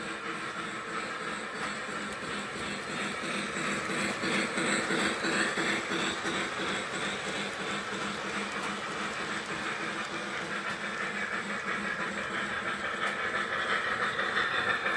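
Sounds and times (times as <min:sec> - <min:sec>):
model train wheels rumbling: 0:00.0 - 0:14.9.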